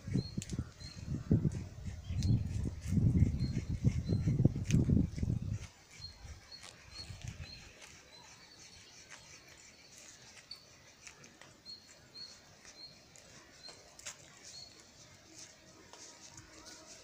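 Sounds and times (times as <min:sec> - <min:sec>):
rustling leaves and twigs: 0:00.0 - 0:17.0
small bird chirping faintly: 0:00.0 - 0:17.0.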